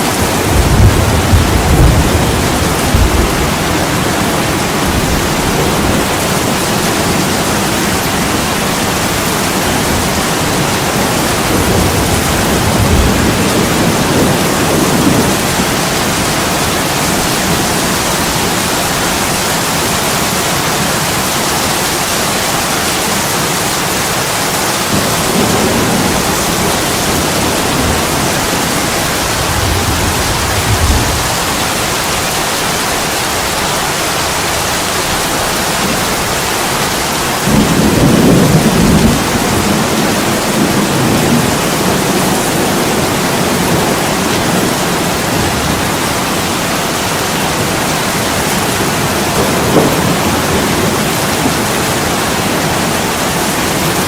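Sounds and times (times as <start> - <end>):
heavy rain on window pane: 0.0 - 54.0.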